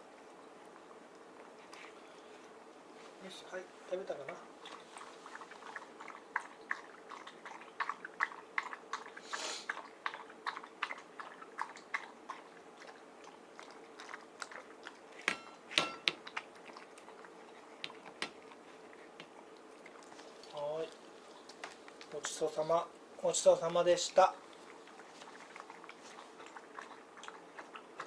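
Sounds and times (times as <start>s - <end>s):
dog chewing and crunching food: 0.0s - 28.0s.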